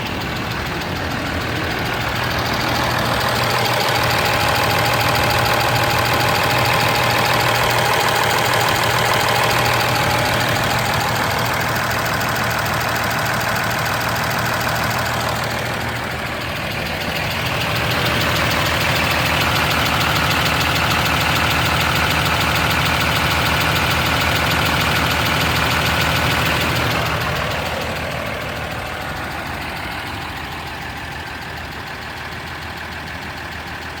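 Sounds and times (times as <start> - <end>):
diesel engine with rapid ticking: 0.0 - 34.0.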